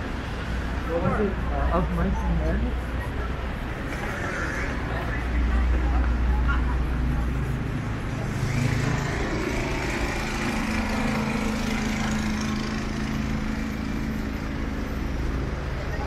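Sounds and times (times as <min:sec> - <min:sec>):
street traffic: 0:00.0 - 0:16.0
vehicle engine running: 0:00.0 - 0:16.0.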